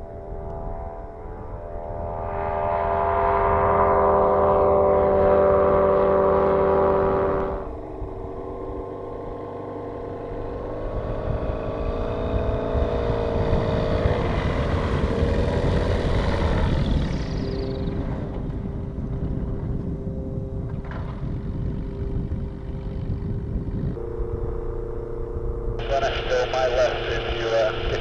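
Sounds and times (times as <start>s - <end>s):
low engine hum: 0.0s - 28.0s
propeller airplane passing: 0.0s - 28.0s.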